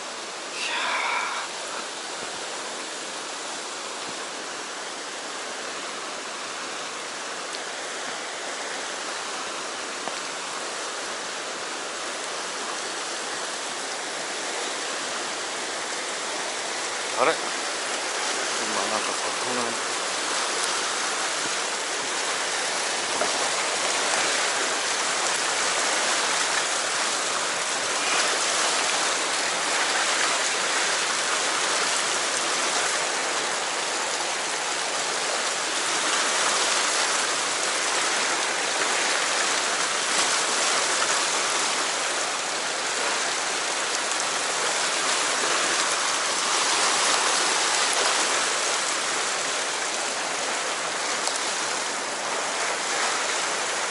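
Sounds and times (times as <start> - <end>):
whitewater rushing over rocks: 0.0 - 53.9.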